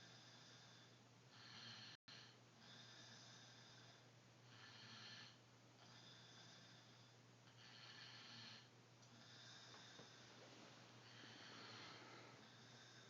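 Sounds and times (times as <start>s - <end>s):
person snoring faintly: 0.0s - 13.0s
steady low hum: 0.0s - 13.0s.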